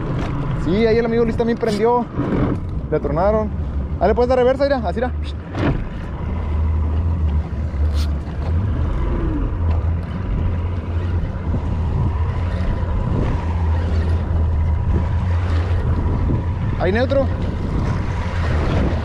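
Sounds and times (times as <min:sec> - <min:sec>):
outboard motor droning: 0:00.0 - 0:19.0.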